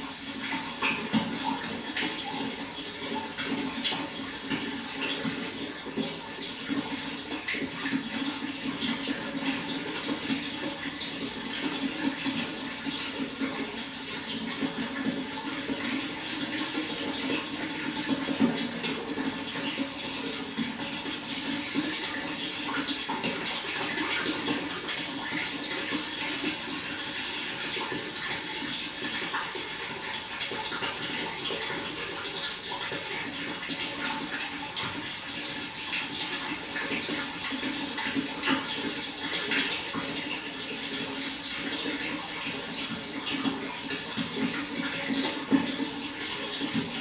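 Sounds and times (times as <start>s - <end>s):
water flowing: 0.0s - 47.0s.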